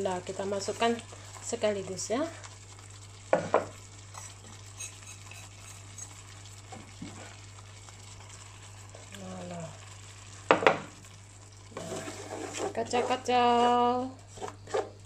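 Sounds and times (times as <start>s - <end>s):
spice paste sizzling in a wok: 0.0s - 15.0s.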